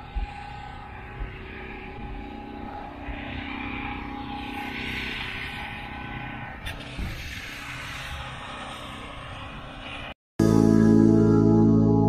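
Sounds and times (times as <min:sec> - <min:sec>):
distant engine droning: 0:00.0 - 0:12.0.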